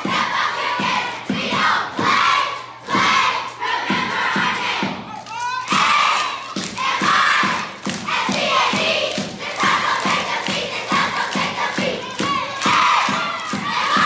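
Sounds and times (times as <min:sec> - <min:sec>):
steady knocking beat: 0:00.0 - 0:05.1, 0:05.7 - 0:14.0
children shouting a cheer: 0:00.0 - 0:14.0.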